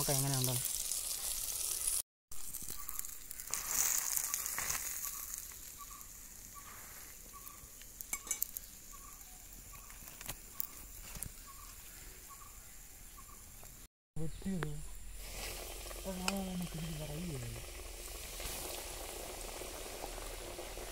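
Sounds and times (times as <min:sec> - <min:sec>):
chicken deep-frying in oil: 0:00.0 - 0:11.8, 0:14.6 - 0:20.9.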